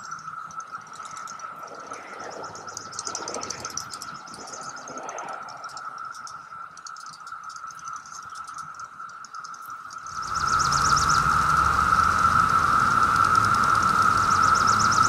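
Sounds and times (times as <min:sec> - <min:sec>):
cicada chorus drone: 0:00.0 - 0:15.0
cicada wing clicks: 0:00.0 - 0:15.0.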